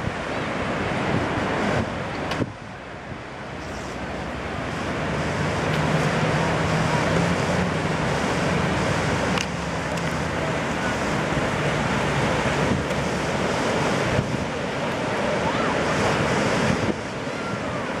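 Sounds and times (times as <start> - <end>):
ocean surf breaking: 0.0 - 18.0
wind on microphone: 0.0 - 18.0.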